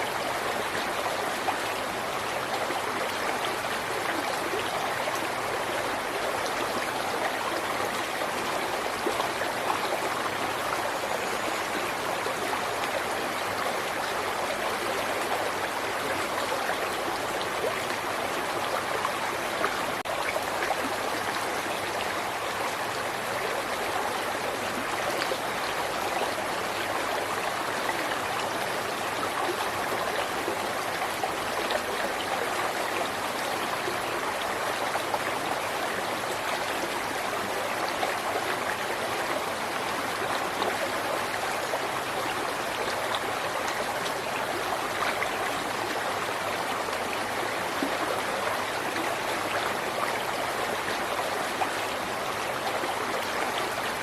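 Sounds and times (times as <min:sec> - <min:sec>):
river water flowing and splashing: 0:00.0 - 0:54.0.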